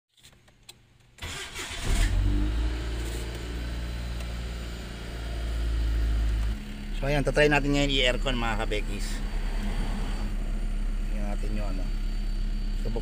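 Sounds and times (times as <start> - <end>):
car engine starting and idling: 1.2 - 13.0.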